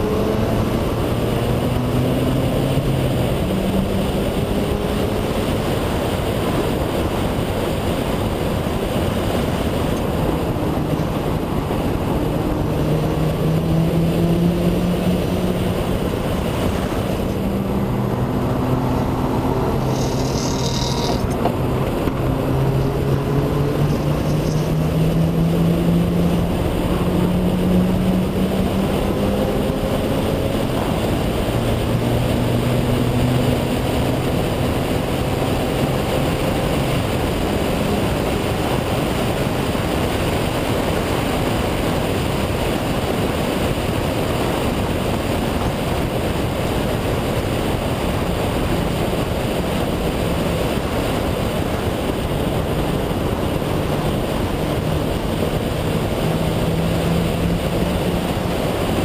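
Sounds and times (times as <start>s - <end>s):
road and wind noise: 0.0s - 59.0s
rotary engine accelerating: 0.0s - 59.0s.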